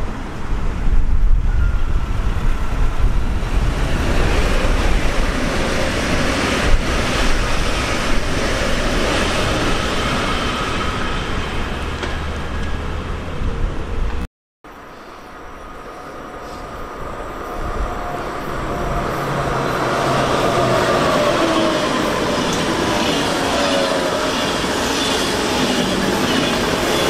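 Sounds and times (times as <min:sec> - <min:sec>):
train wheels rumbling on rail: 0:00.0 - 0:14.2, 0:16.4 - 0:27.0.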